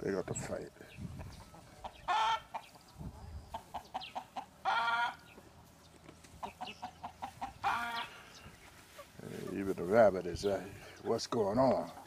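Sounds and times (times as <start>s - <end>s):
chickens clucking: 0.0s - 12.0s
chickens squawking: 0.1s - 12.0s.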